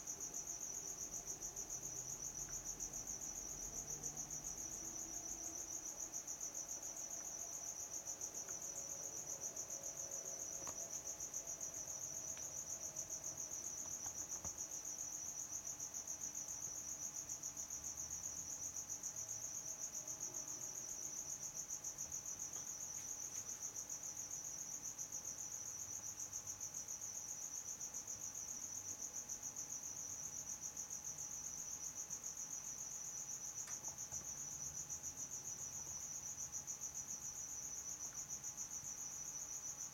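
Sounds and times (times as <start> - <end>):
insect chirping trill: 0.0 - 39.9.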